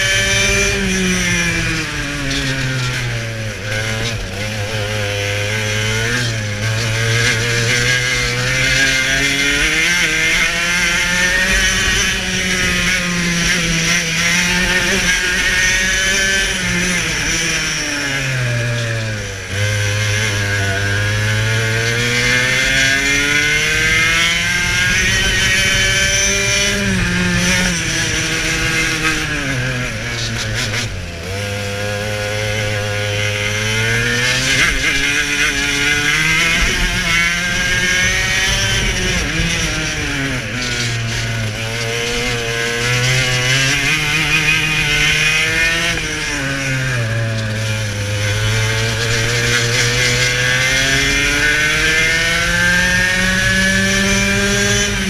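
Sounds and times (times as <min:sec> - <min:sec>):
two-stroke kart engine revving: 0:00.0 - 0:55.0.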